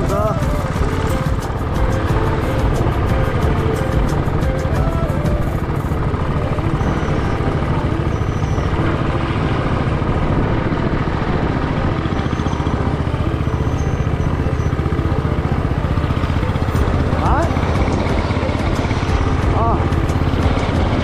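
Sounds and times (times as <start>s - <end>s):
motorcycle engine running: 0.0s - 21.0s
road noise: 0.0s - 21.0s
wind noise: 0.0s - 21.0s.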